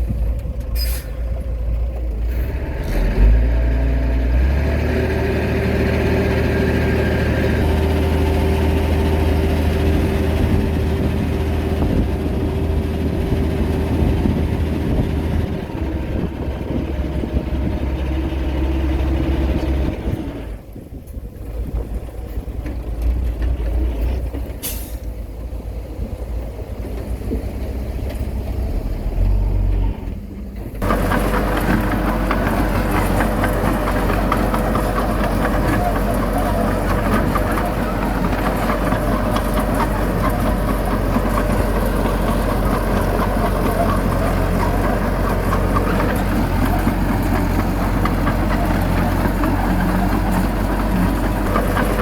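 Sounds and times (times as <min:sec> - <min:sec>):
heavy diesel machinery engine: 0:00.0 - 0:52.0.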